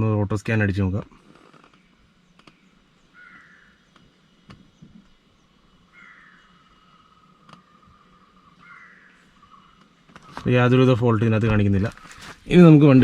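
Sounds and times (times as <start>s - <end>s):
faint bird calls: 1.1s - 10.8s, 11.8s - 12.5s.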